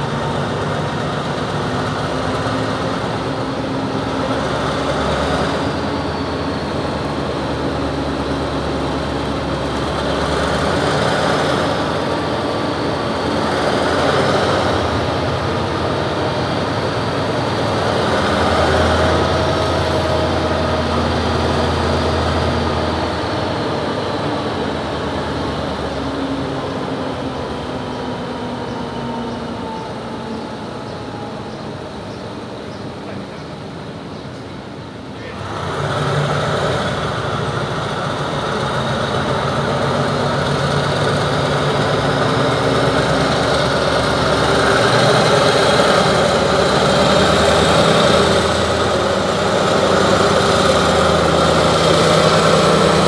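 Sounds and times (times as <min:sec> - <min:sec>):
diesel locomotive engine revving: 0:00.0 - 0:53.0.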